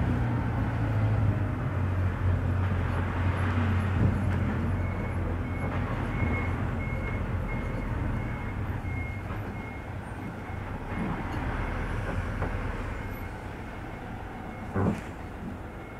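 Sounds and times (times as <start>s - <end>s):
road noise: 0.0s - 15.9s.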